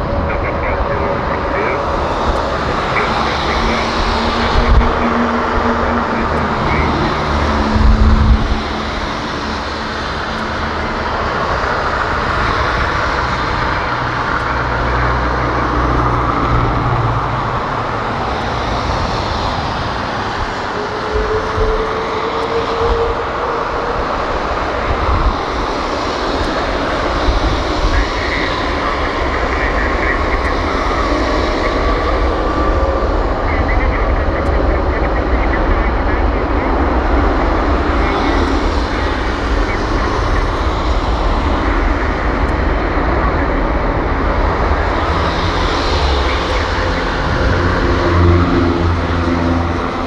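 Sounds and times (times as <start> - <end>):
faint rising whine: 0.0 - 50.0
heavy low rumble: 0.0 - 50.0
jet engines running up: 0.0 - 50.0.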